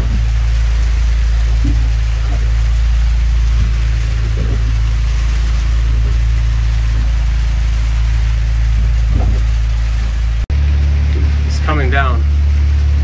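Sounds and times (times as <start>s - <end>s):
low rumble: 0.0s - 13.0s
rain and wind hissing: 0.0s - 13.0s.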